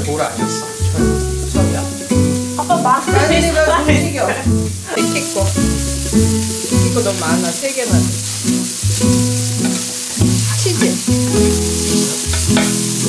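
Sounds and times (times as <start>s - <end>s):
background music with bass notes: 0.0s - 13.0s
burger patties sizzling on griddle: 0.0s - 13.0s.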